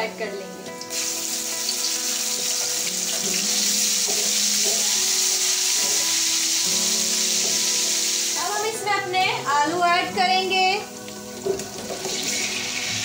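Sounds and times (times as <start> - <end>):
paste sizzling in hot oil: 0.1 - 9.1, 10.5 - 13.0.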